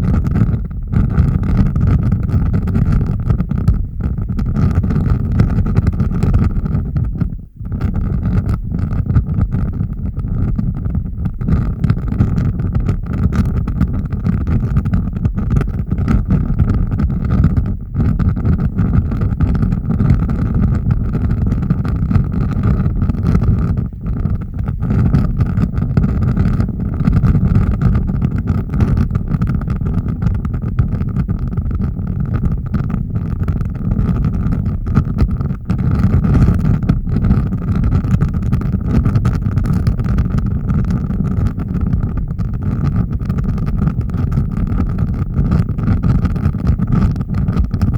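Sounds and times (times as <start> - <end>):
fire rumbling: 0.0 - 47.9.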